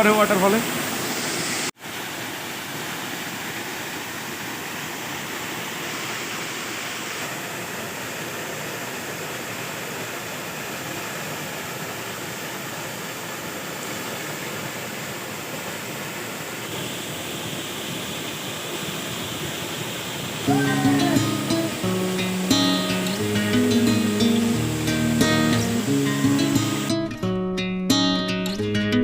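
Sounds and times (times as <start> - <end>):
waterfall rushing: 0.0 - 27.1.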